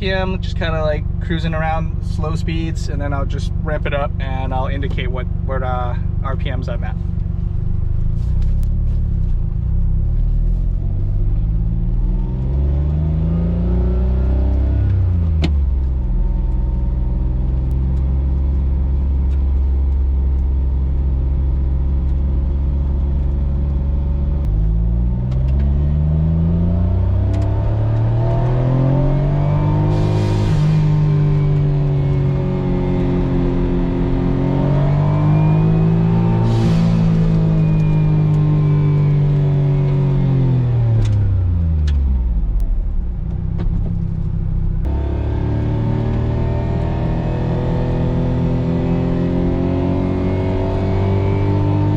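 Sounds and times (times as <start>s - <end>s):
car engine heard from inside cabin: 0.0s - 30.1s, 30.7s - 51.9s.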